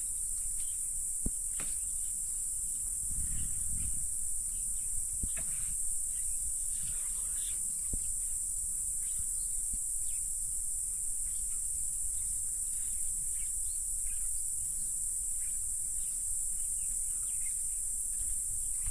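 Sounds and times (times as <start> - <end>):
high-pitched insect drone: 0.0 - 18.9.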